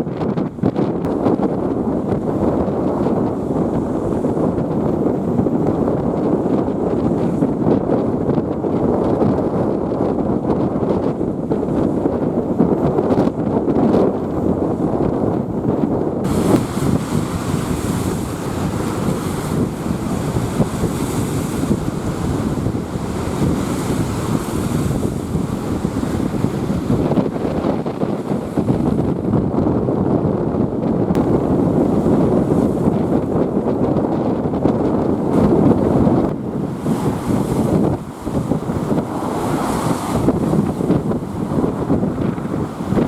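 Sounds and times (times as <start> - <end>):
wind buffeting microphone: 0.0 - 43.0
lake waves breaking on shore: 1.1 - 29.4, 30.7 - 43.0.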